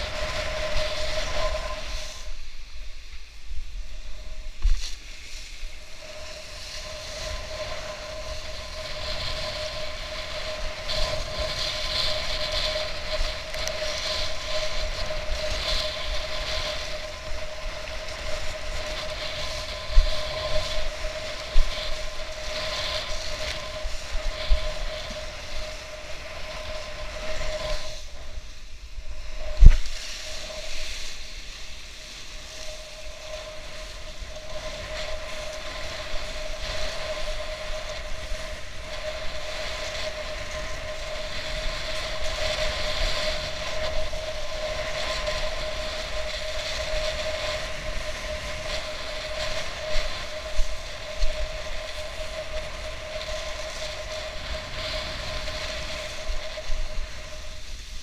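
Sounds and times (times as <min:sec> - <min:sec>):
wind rushing past camera: 0:00.0 - 0:58.0.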